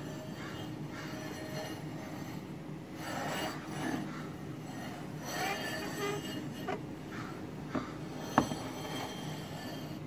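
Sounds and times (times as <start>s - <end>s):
steel straightedge scraping wood: 0.0s - 10.0s.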